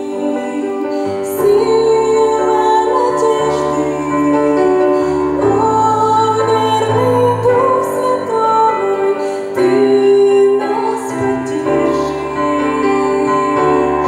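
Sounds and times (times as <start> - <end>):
instrumental accompaniment: 0.0 - 14.0
woman singing: 0.0 - 14.0.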